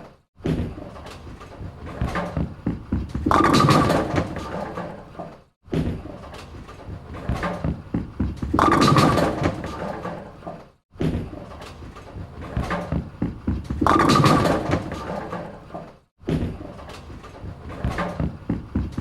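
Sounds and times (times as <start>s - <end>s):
bowling ball rolling down a lane: 0.5s - 16.0s.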